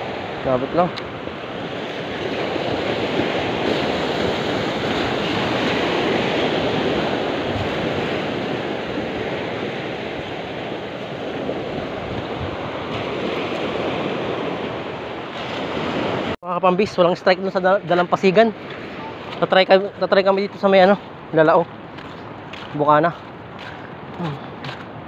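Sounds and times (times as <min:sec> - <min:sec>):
small waves breaking on beach: 0:00.0 - 0:25.0.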